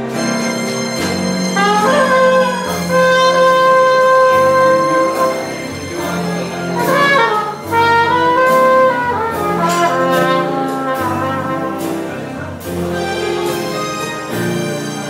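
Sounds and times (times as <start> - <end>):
jazz trumpet melody: 0.0 - 15.0
piano accompaniment: 0.0 - 15.0.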